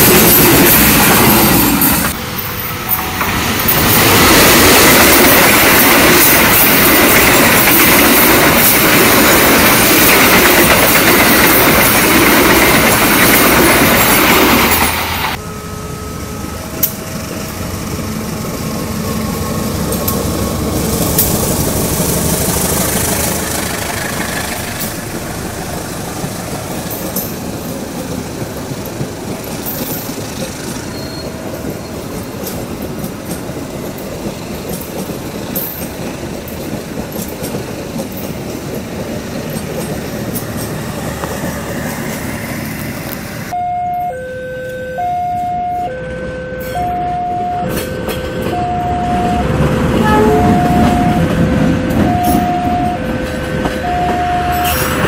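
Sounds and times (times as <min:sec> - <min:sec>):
distant train rolling past: 0:00.0 - 0:43.6, 0:46.0 - 0:55.0
train coaches passing close: 0:00.0 - 0:55.0.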